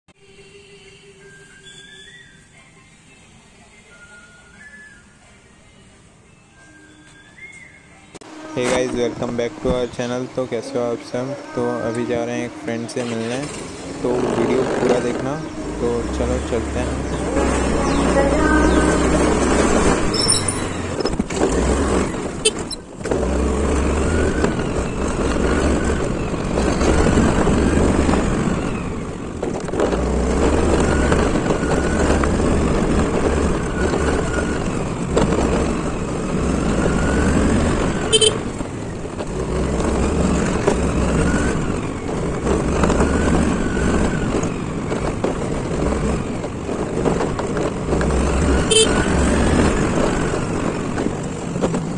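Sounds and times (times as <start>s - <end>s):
scooter engine and road noise: 0.1s - 51.9s.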